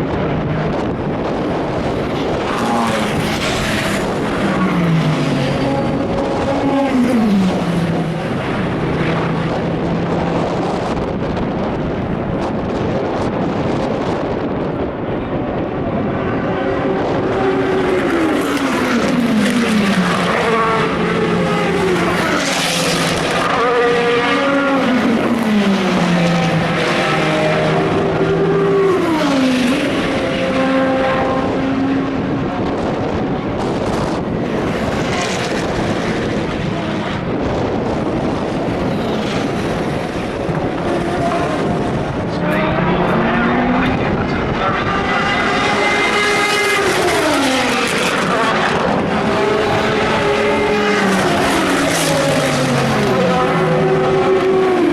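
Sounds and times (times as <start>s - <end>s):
race car engines: 0.0s - 54.9s.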